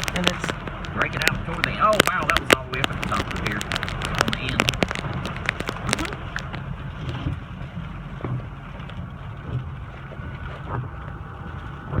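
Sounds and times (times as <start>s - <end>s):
storm surf: 0.0s - 12.0s
strong wind buffeting microphone: 0.0s - 12.0s.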